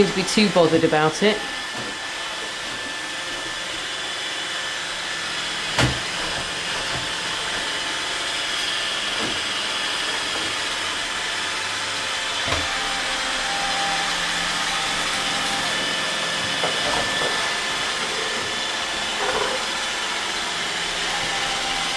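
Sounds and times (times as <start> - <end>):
robot vacuum whirring: 0.0 - 21.9.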